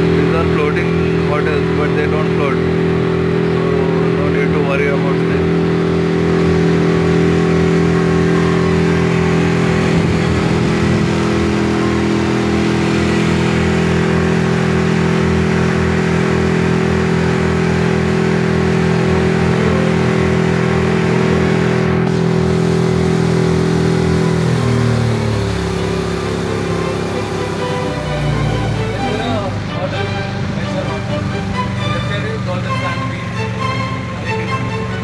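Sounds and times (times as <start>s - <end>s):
wind and water rushing: 0.0s - 32.0s
motorboat engine running: 0.0s - 35.0s.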